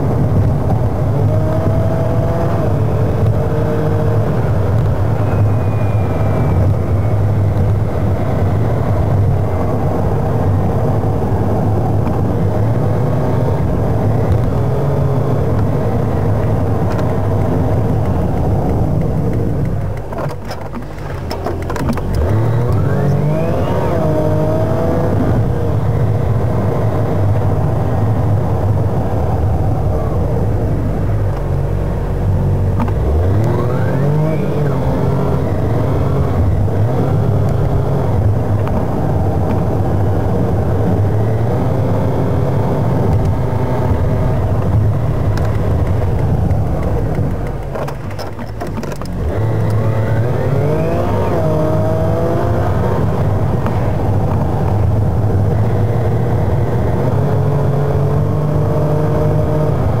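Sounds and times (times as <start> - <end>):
car engine revving: 0.0 - 60.0
road noise inside car: 0.0 - 60.0.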